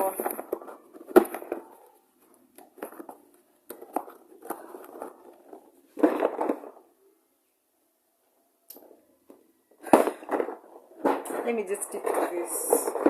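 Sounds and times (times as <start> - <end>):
objects clicking and rustling: 0.0 - 6.9, 8.7 - 13.0.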